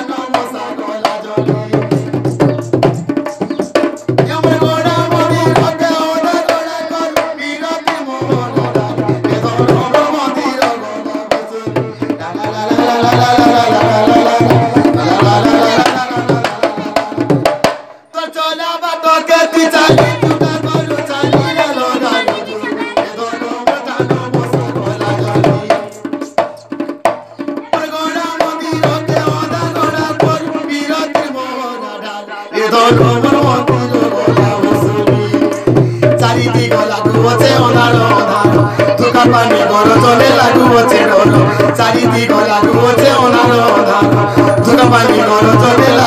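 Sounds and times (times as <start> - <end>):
barrel drum beaten by hand: 0.3 - 17.9, 19.6 - 31.4, 32.7 - 46.0.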